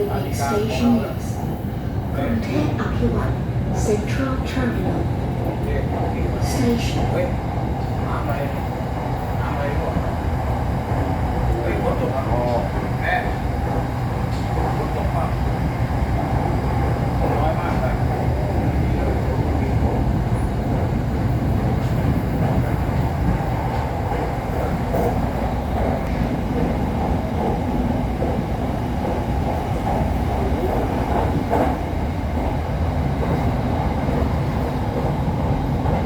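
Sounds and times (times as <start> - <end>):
electric train rumbling on track: 0.0 - 36.0.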